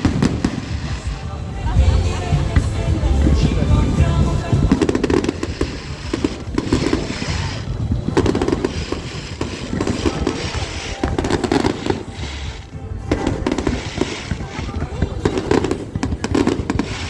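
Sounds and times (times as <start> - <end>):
fireworks crackling and banging: 0.0 - 17.0
music playing: 0.0 - 17.0.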